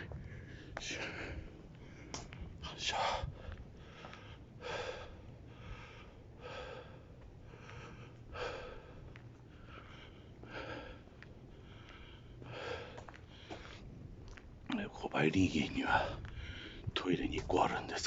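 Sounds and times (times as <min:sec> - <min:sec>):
person breathing heavily: 0:00.0 - 0:14.0, 0:15.8 - 0:17.0.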